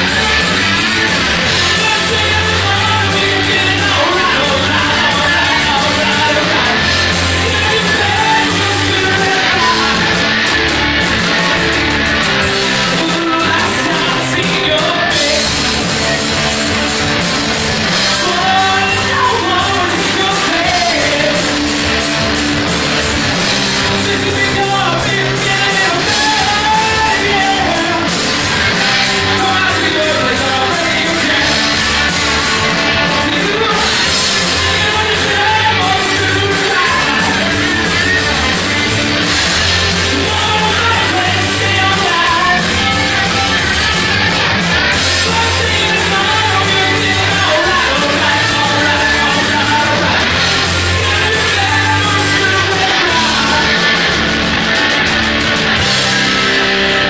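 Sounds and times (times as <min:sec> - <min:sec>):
person singing lead vocal: 0:00.0 - 0:55.0
electric guitars: 0:00.0 - 0:57.0
live rock band: 0:00.0 - 0:57.0.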